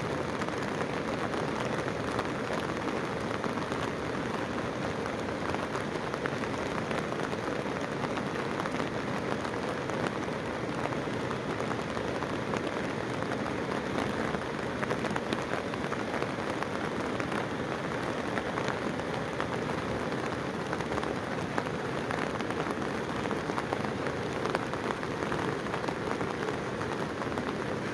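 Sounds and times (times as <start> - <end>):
rushing water hiss: 0.0 - 27.9.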